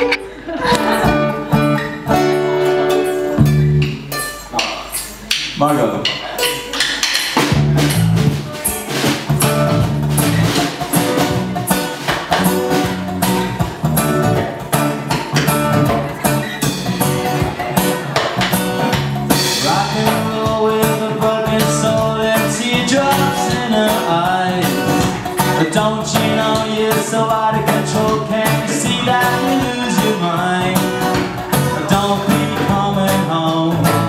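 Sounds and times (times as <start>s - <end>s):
bass guitar: 0.0s - 34.0s
drum kit playing a beat: 0.0s - 34.0s
guitar: 0.0s - 34.0s.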